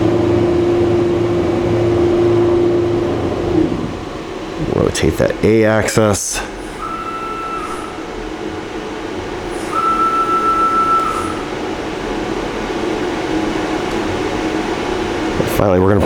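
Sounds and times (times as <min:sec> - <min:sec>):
high even whine: 0:00.0 - 0:15.4
motor and drive hum: 0:00.0 - 0:15.6.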